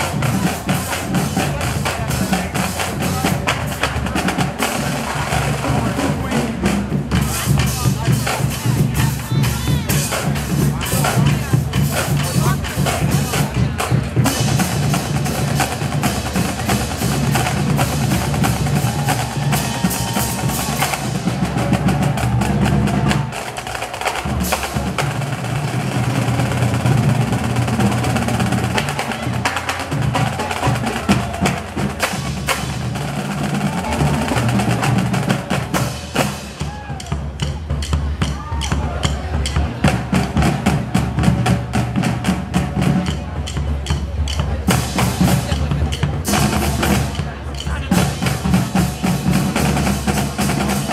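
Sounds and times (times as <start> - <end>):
marching drumline: 0.0 - 50.9.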